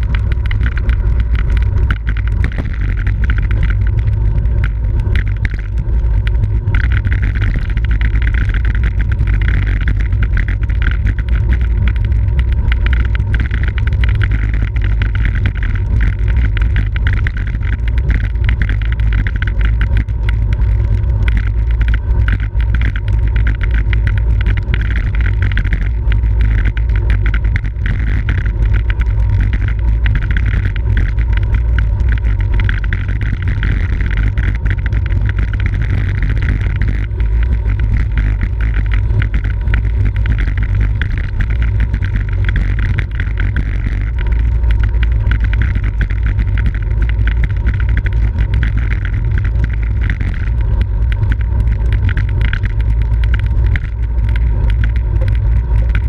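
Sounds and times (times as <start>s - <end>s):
small knocks and rattles: 0.0s - 56.0s.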